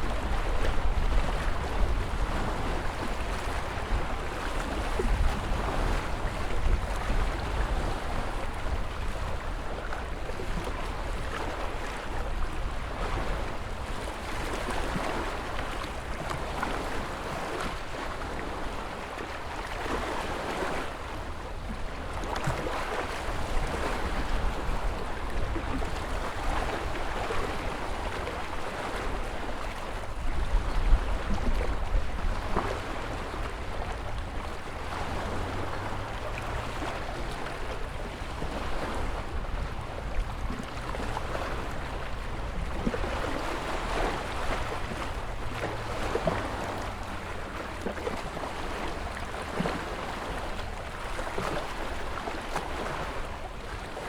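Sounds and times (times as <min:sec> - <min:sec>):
ocean waves washing ashore: 0:00.0 - 0:54.0.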